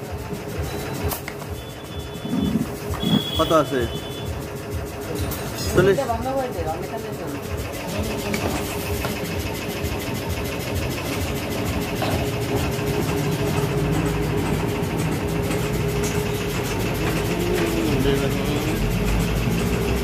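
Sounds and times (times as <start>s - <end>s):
air compressor running: 0.0s - 20.0s.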